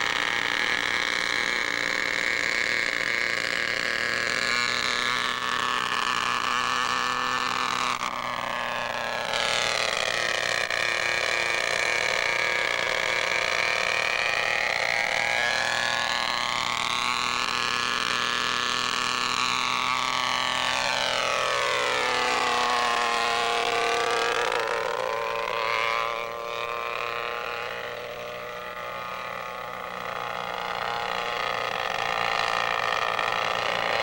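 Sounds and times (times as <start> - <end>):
model helicopter engine whining: 0.0 - 34.0.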